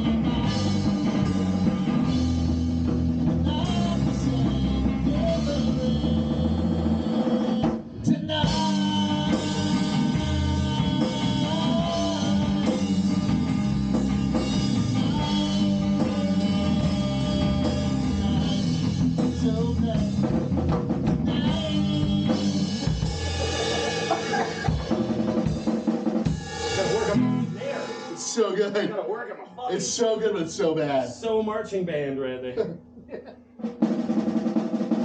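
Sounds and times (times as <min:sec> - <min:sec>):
rock band playing: 0:00.0 - 0:29.0, 0:33.4 - 0:35.0.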